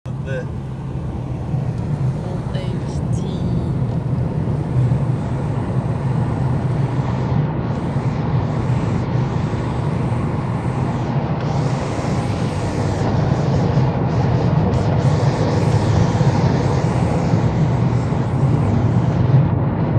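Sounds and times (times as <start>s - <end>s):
car engine: 0.0s - 19.9s
road noise: 0.0s - 19.9s.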